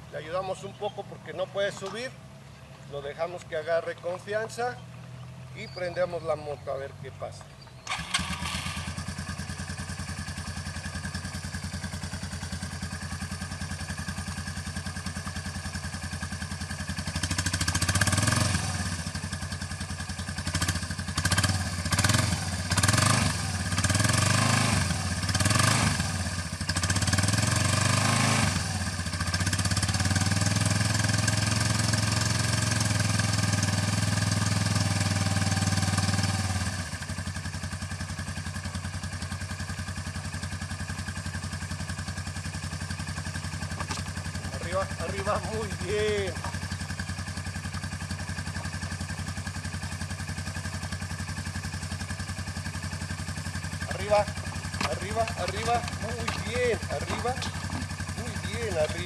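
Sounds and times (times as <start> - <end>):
quad bike engine revving: 5.5 - 59.0.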